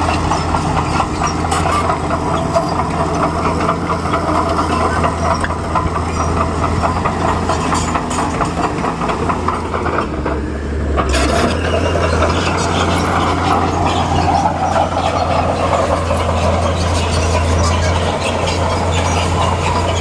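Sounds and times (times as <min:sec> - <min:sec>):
bulldozer diesel engine humming: 0:00.0 - 0:20.0.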